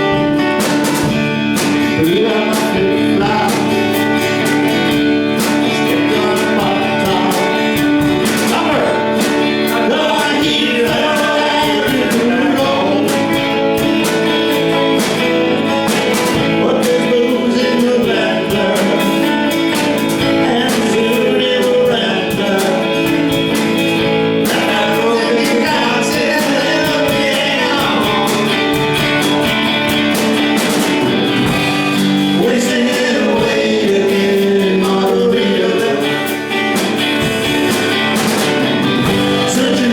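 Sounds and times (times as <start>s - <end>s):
guitars playing: 0.0s - 39.9s
person singing: 0.0s - 39.9s.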